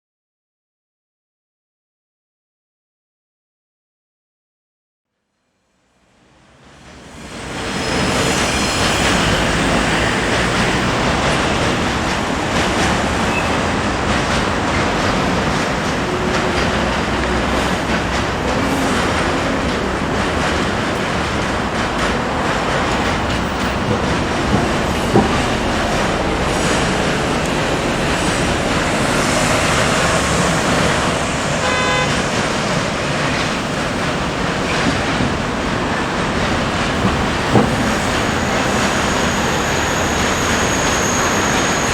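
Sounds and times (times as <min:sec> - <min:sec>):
train wheels rumbling on rails: 0:06.1 - 0:41.9.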